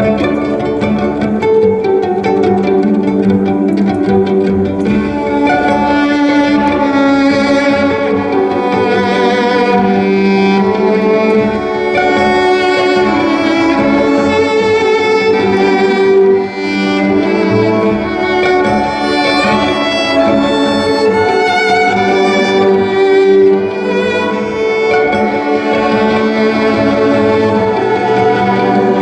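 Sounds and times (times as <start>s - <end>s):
held accompaniment: 0.0s - 29.0s
violin sustained bowed notes: 0.0s - 29.0s.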